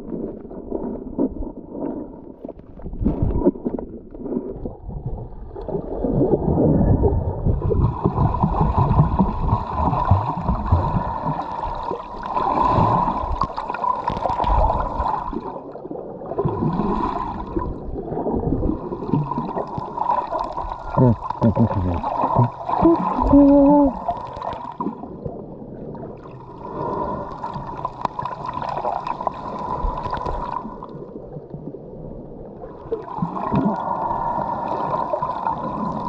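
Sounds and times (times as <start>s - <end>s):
low underwater rumble: 0.0s - 34.7s
regulator bubbles gurgling: 0.0s - 36.0s.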